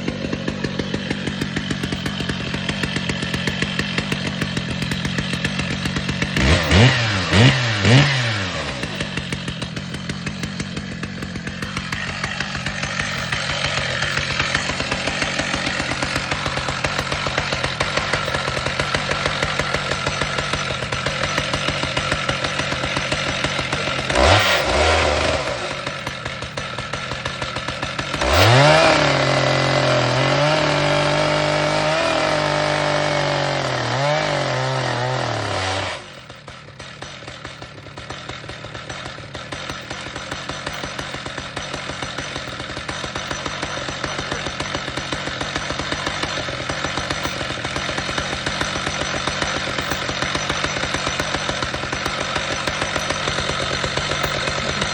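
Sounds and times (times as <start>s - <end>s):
chainsaw at high speed: 0.0s - 54.9s
chainsaw idling: 0.0s - 54.9s
chainsaw throttle blips: 0.0s - 54.9s.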